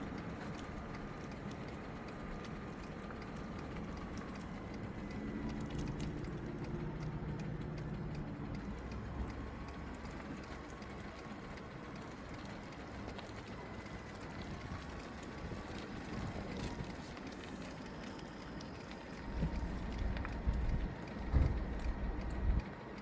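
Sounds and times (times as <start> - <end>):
faint ticks: 0.0 - 23.0.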